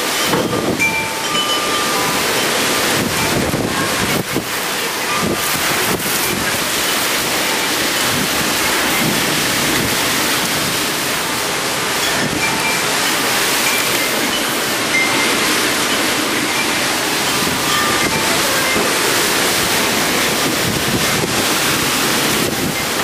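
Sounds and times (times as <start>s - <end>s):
heavy rain pouring: 0.0s - 23.0s
strong wind: 0.0s - 23.0s.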